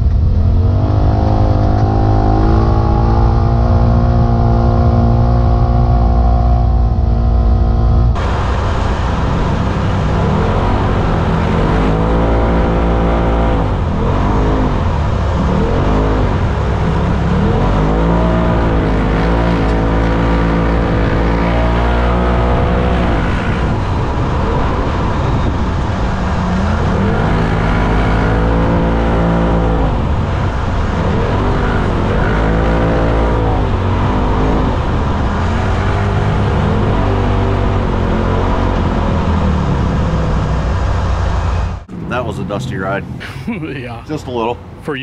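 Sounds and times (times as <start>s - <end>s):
engine revving: 0.0s - 45.0s
low rumble: 0.0s - 45.0s.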